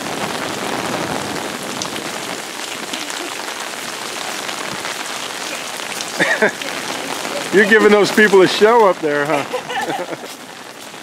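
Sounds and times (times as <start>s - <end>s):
rain hissing: 0.0s - 11.0s
raindrops ticking: 0.0s - 11.0s.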